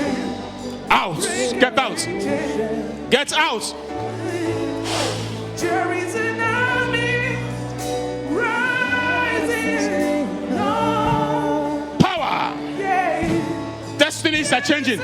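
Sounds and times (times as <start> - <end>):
low musical accompaniment: 0.0 - 15.0
voices singing held notes: 0.0 - 15.0.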